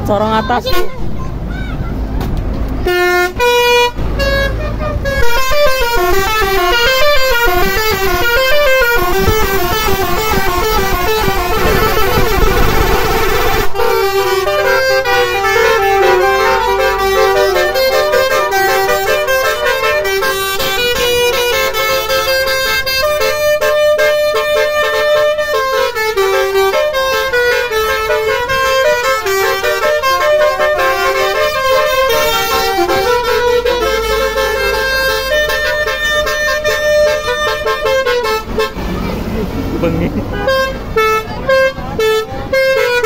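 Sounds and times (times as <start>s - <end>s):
musical horns playing a tune: 2.8s - 43.0s.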